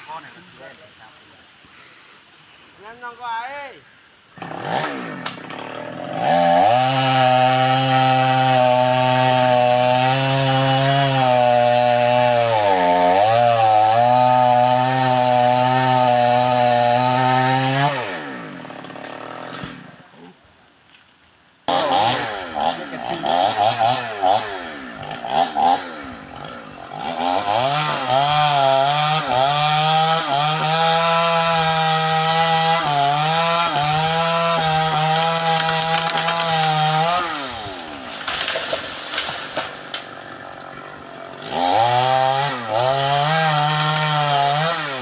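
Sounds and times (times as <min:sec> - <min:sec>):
chainsaw revving and cutting: 0:04.4 - 0:20.2, 0:21.7 - 0:45.0.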